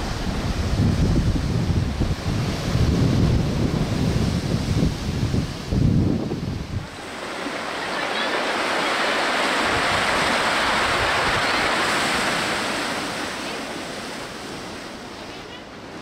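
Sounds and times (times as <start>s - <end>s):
storm surf wave breaking: 0.0s - 16.0s.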